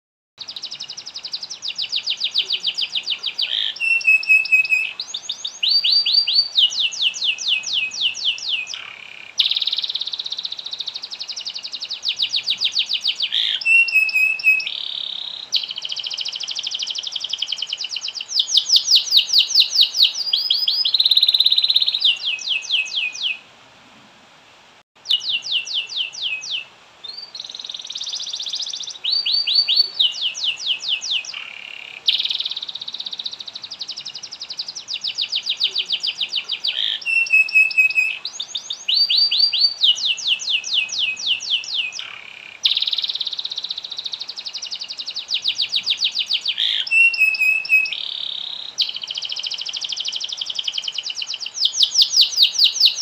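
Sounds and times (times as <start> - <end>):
canary singing trills: 0.4 - 23.4, 25.0 - 53.0.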